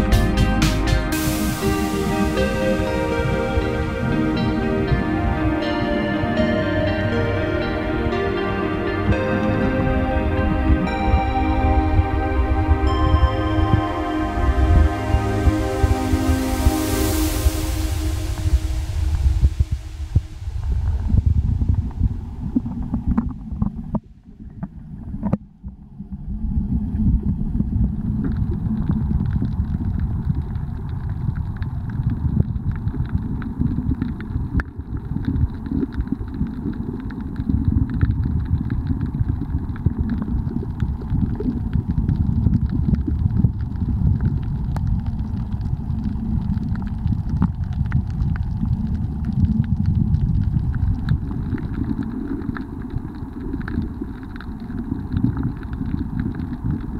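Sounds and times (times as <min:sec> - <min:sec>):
muffled underwater rumble: 0:01.2 - 0:56.9.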